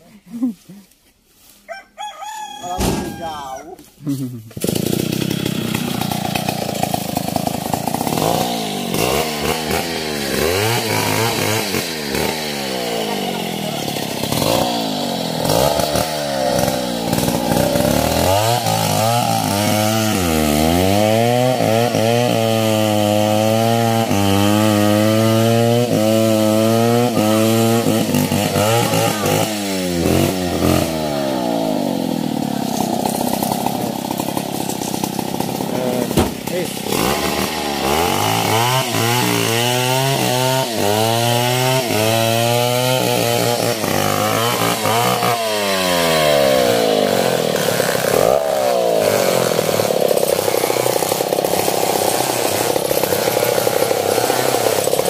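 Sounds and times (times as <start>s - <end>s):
chainsaw cutting log: 4.0s - 55.0s.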